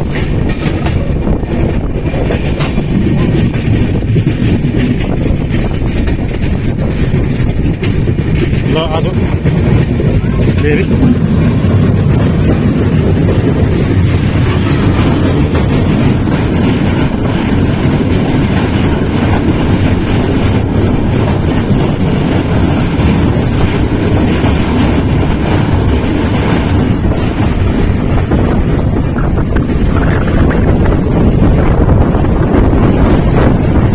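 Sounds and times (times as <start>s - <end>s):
train wheels rumbling on rail: 0.0s - 33.9s.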